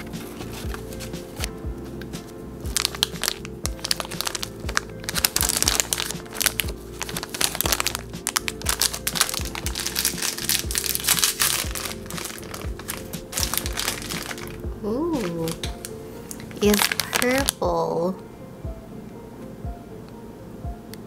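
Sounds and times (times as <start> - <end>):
plastic wrapper crinkling: 0.0 - 17.6
background music: 0.0 - 21.0.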